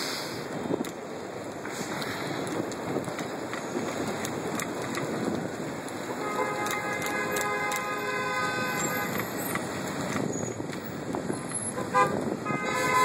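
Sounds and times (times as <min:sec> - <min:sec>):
street traffic: 0:00.0 - 0:13.0
wind on microphone: 0:00.3 - 0:13.0.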